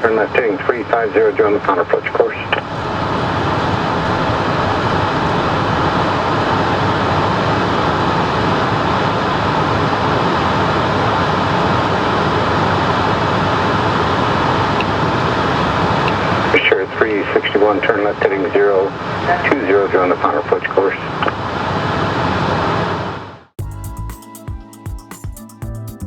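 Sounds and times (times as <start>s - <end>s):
jet cockpit airflow and engine noise: 0.0s - 23.6s.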